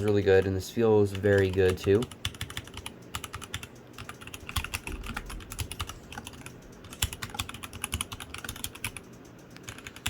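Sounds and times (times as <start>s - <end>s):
mechanical keyboard typing: 0.0s - 10.0s.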